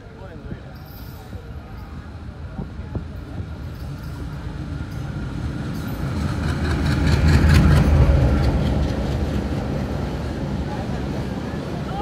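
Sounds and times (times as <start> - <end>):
diesel locomotive engine rumble: 0.0 - 12.0
train wheels clacking on rails: 0.8 - 11.5.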